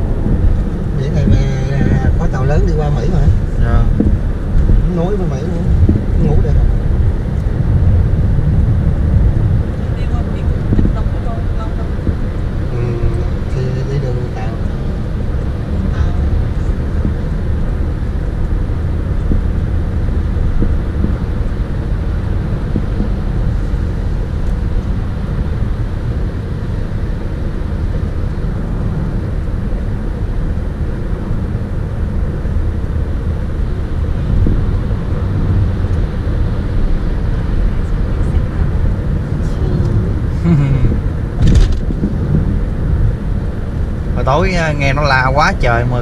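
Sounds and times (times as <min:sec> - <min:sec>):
car cabin road noise: 0:00.0 - 0:46.0.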